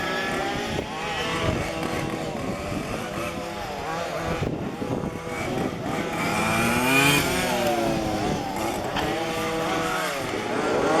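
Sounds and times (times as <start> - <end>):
small two-stroke engines revving: 0.0 - 11.0.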